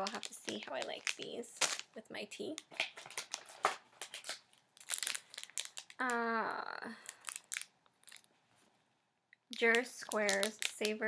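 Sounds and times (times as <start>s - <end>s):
snack packaging crinkling: 0.0s - 6.2s, 7.0s - 8.3s, 9.6s - 11.0s.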